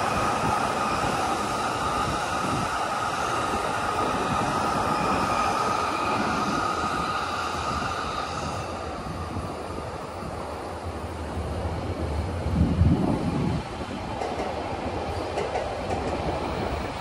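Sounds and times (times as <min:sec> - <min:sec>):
electric train running past: 0:00.0 - 0:17.0.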